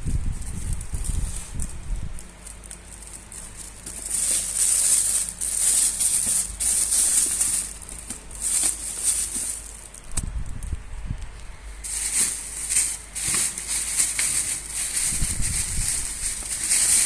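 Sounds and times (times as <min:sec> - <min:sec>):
packaging rustling and crinkling: 0:00.3 - 0:10.2, 0:11.8 - 0:17.0.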